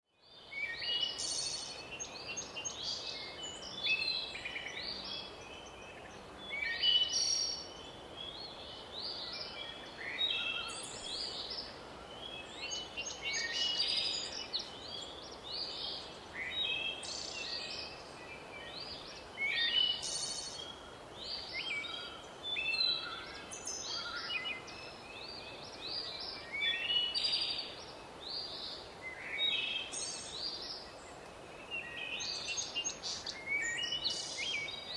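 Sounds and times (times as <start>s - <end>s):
faint steady hiss: 0.1s - 34.9s
songbirds singing: 0.2s - 34.9s.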